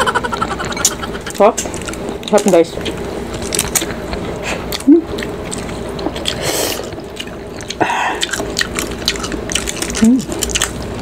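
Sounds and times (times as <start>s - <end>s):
wet squishing food: 0.6s - 11.0s.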